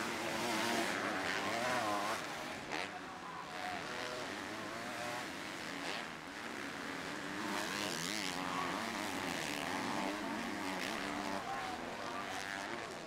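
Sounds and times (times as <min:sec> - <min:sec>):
motocross bike engines racing: 0:00.0 - 0:13.0.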